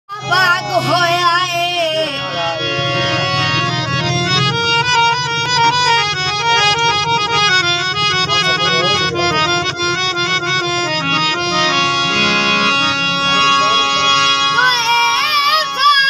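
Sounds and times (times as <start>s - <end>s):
harmonium melody over a drone: 0.1s - 16.0s.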